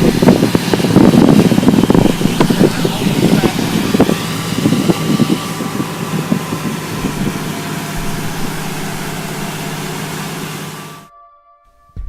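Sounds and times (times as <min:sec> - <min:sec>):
engine humming: 0:00.0 - 0:11.1.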